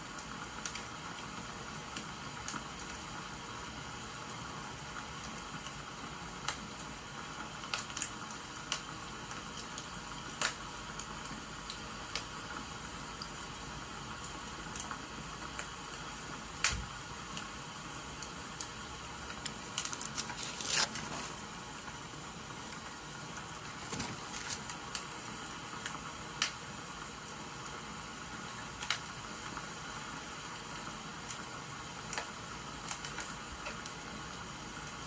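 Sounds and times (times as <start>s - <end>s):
steady rain-like hiss: 0.0s - 35.0s
wood fire crackling and popping: 0.1s - 3.0s, 4.8s - 13.5s, 14.1s - 27.0s, 28.5s - 29.7s, 30.6s - 35.0s.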